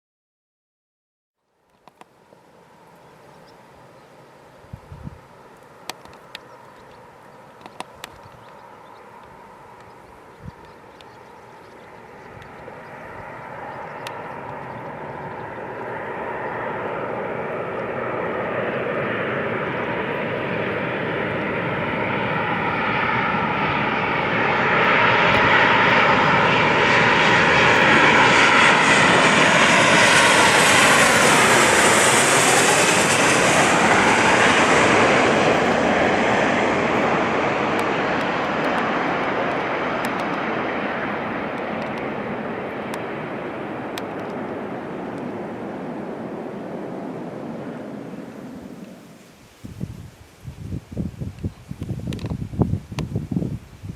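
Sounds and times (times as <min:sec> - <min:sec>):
jet airliner flying past: 0:02.2 - 0:53.9.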